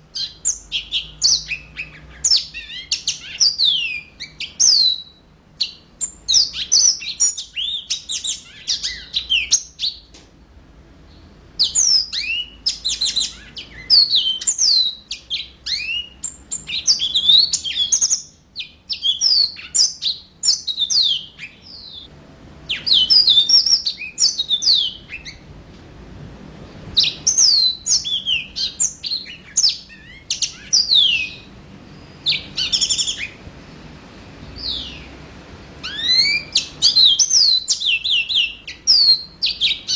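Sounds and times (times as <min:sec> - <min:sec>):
canary singing chirps and trills: 0:00.0 - 0:25.5, 0:26.6 - 0:39.9.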